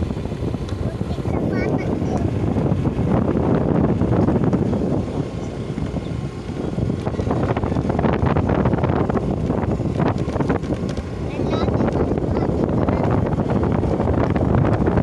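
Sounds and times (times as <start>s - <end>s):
scooter engine running: 0.0s - 15.0s
tyres on road: 0.0s - 15.0s
wind buffeting microphone: 0.0s - 15.0s.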